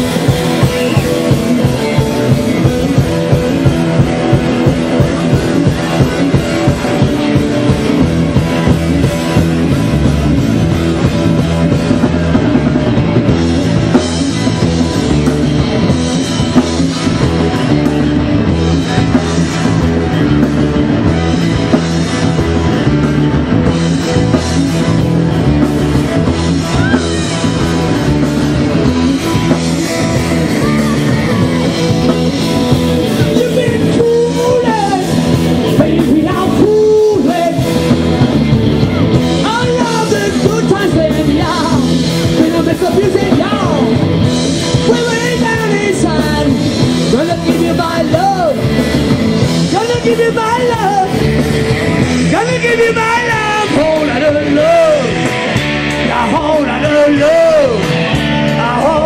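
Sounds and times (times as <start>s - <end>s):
electric guitars: 0.0s - 59.0s
steady drum beat: 0.0s - 59.0s.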